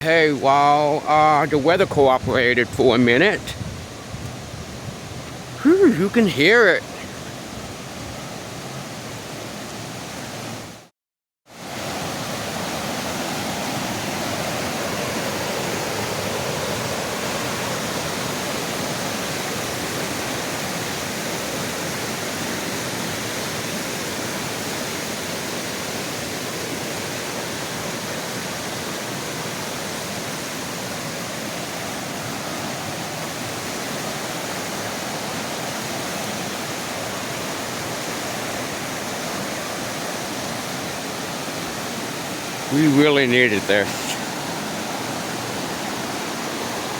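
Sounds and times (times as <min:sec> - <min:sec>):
creek rushing: 0:00.0 - 0:10.9, 0:11.5 - 0:46.9.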